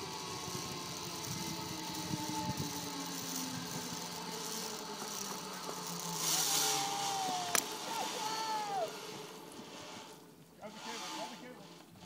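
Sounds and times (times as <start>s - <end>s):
zipline pulleys whining on cable: 0.0s - 12.0s.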